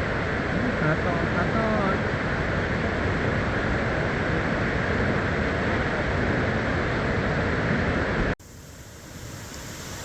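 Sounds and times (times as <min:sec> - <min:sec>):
waterfall roaring: 0:00.0 - 0:08.3.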